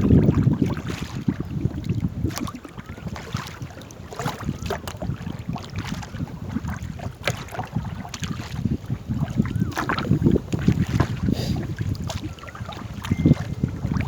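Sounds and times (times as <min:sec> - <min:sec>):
paddles splashing water: 0:00.0 - 0:14.0
wind rumbling on microphone: 0:00.0 - 0:14.0.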